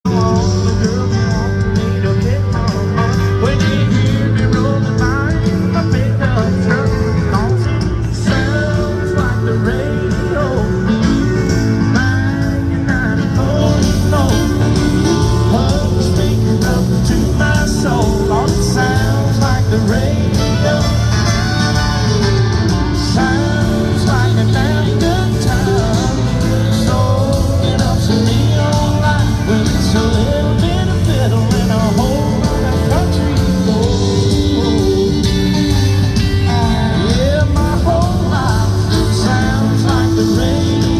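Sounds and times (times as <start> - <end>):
live country band playing: 0.0 - 40.9
person singing: 0.0 - 40.9.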